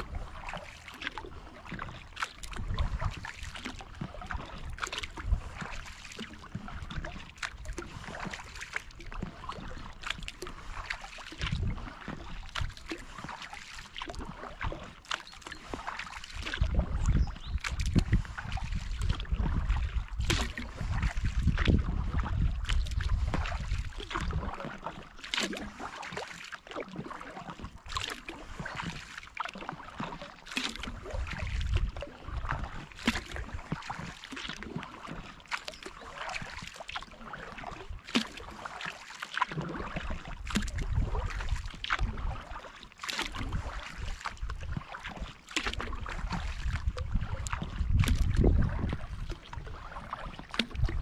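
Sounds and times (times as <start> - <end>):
kayak paddle splashing: 0.0 - 51.0.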